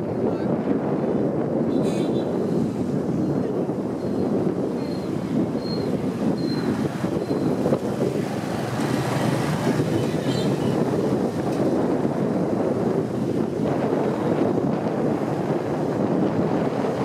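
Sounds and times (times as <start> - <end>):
motorbike engine and road rumble: 0.0 - 17.0
wind rushing over microphone: 0.0 - 17.0.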